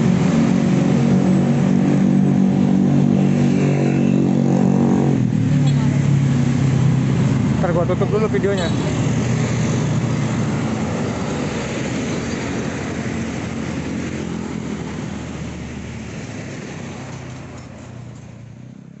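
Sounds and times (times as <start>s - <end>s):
motorbikes passing: 0.0s - 19.0s
truck passing: 0.0s - 19.0s.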